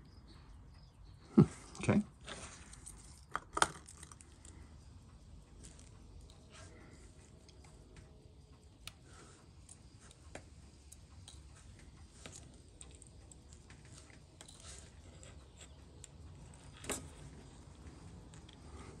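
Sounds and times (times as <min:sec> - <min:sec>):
small clicks of watchmaker's tools: 0:02.4 - 0:19.0.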